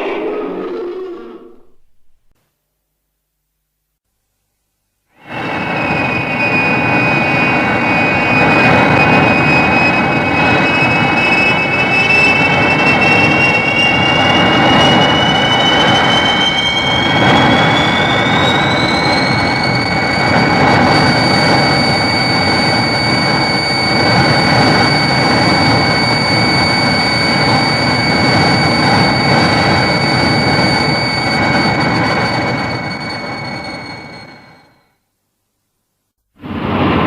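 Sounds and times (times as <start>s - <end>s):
jet-like rushing roar with whine: 0.0s - 2.3s, 5.2s - 34.8s, 36.4s - 37.0s.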